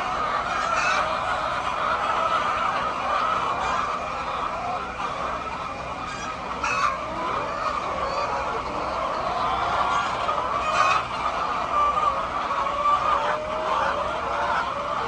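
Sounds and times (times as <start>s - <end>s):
chicken squawk: 0.0s - 15.0s
chickens clucking: 0.0s - 15.0s.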